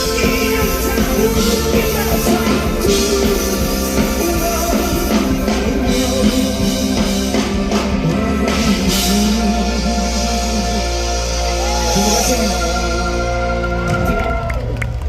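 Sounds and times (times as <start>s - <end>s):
drum kit: 0.0s - 15.0s.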